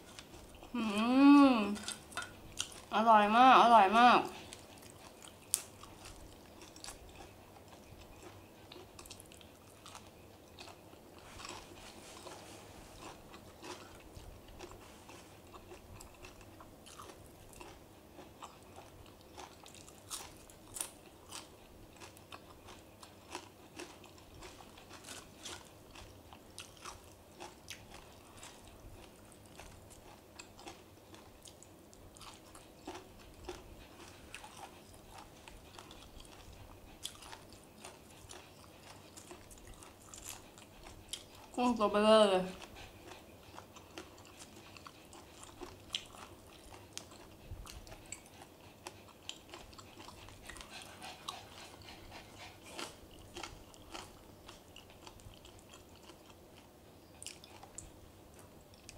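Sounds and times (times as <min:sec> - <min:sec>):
person chewing crunchy food: 0:00.0 - 0:02.9, 0:04.3 - 0:41.6, 0:42.5 - 0:58.9.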